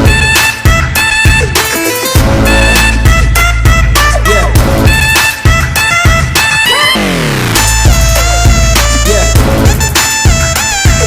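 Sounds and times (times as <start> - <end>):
loud electronic music with beat: 0.0 - 11.0.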